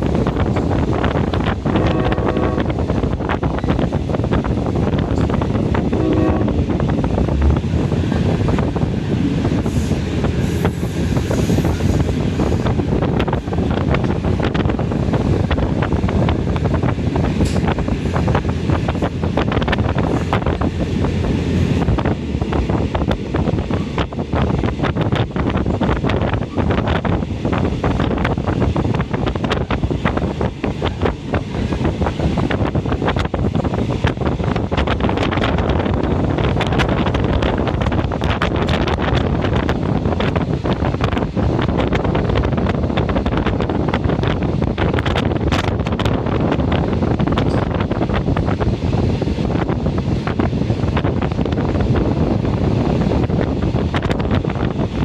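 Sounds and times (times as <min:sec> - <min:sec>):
train wheels rumbling on track: 0:00.0 - 0:55.0
wind rushing in window: 0:00.0 - 0:55.0.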